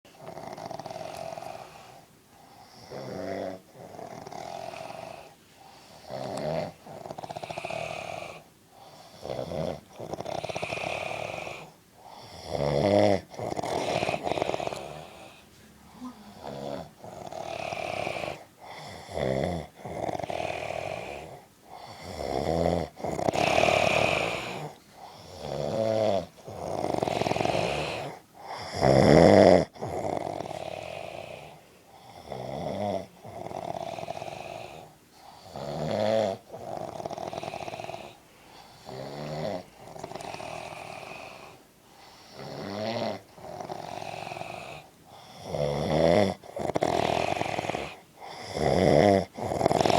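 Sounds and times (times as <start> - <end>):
man snoring: 0.2 - 1.8, 2.7 - 5.3, 6.0 - 38.2, 38.8 - 41.6, 42.3 - 49.9.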